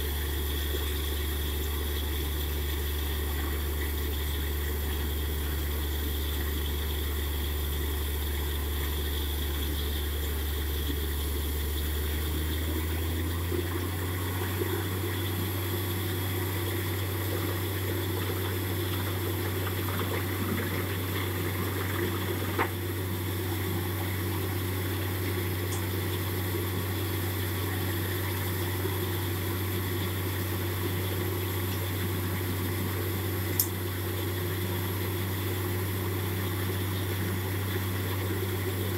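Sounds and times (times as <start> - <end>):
drilling rig engine running: 0.0 - 32.3
muddy water gushing and splashing: 1.2 - 38.9.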